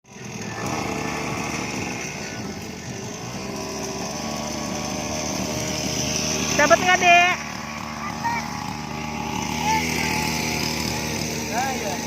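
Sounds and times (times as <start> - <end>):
small motor buzzing: 0.1 - 12.0.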